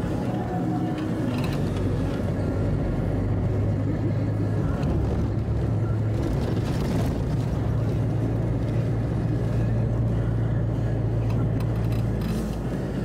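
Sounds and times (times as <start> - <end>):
road or wind noise: 0.0 - 13.0
vehicle engine drone: 0.0 - 13.0.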